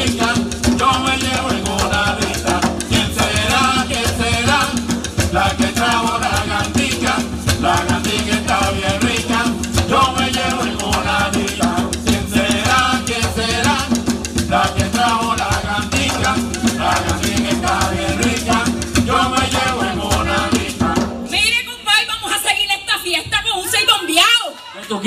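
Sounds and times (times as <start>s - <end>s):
people singing: 0.0s - 21.3s
barrel drums playing: 0.0s - 21.7s.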